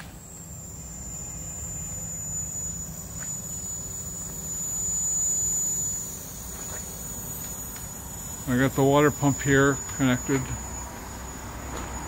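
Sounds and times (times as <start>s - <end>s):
steam boiler whine: 0.0s - 12.0s.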